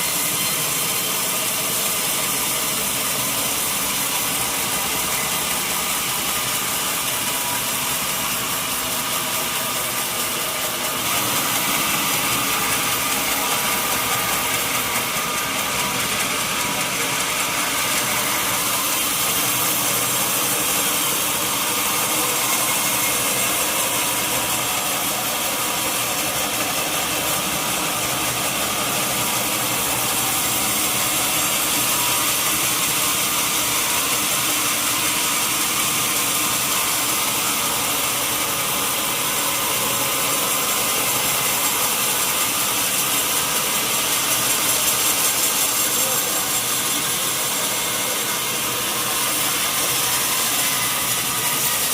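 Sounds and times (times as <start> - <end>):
sawmill saw cutting log: 0.0 - 51.9.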